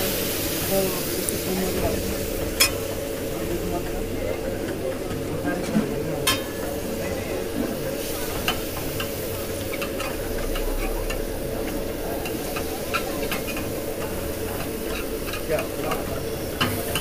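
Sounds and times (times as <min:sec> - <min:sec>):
steady sizzle: 0:00.0 - 0:17.0.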